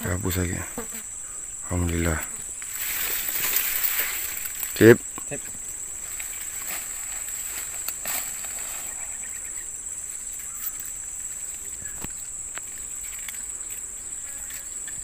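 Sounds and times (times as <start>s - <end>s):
insects chirring: 0.0s - 15.0s
faint clicks and rustles: 1.8s - 9.2s, 10.0s - 15.0s.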